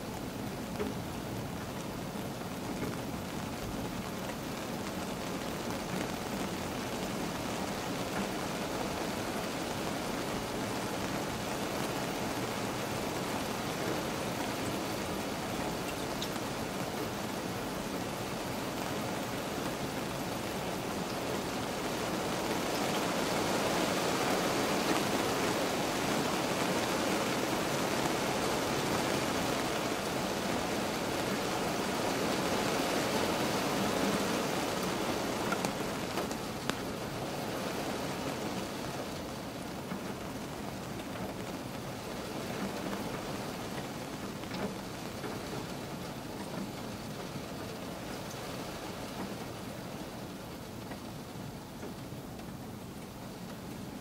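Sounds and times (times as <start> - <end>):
rain on car roof: 0.0 - 54.0.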